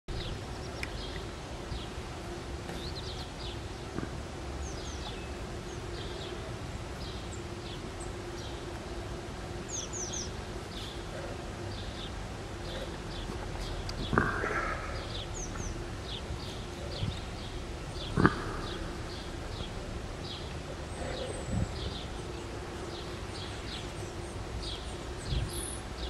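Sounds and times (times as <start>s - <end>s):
background hiss: 0.1s - 26.0s
birds chirping: 0.1s - 26.0s
steady low hum: 0.1s - 26.0s.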